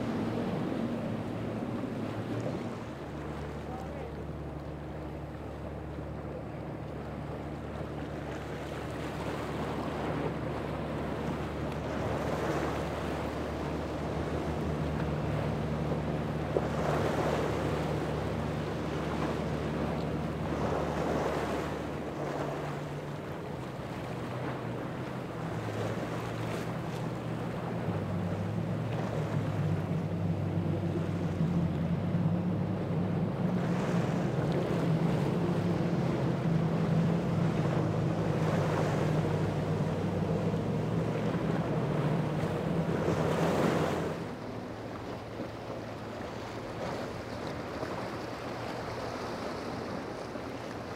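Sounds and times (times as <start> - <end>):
powerboat engines droning: 0.0 - 50.9
waves washing: 0.0 - 50.9.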